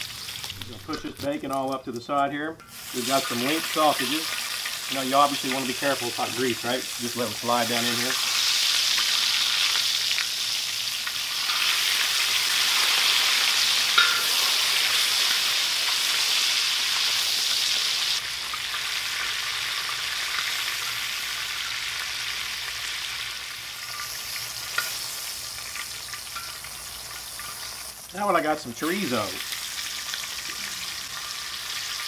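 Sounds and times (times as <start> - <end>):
sausages sizzling in grease: 0.0 - 32.0.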